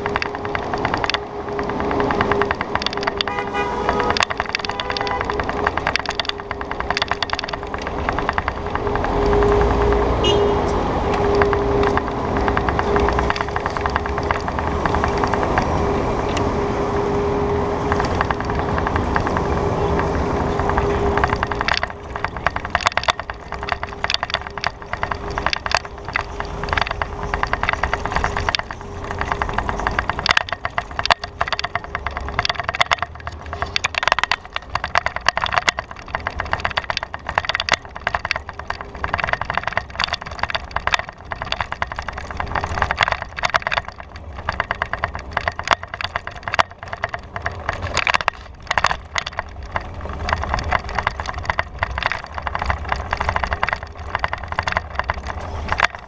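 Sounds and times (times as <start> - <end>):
bicycle rattling over rough pavement: 0.0 - 56.0
city traffic noise: 0.0 - 56.0
engine hum: 0.0 - 56.0.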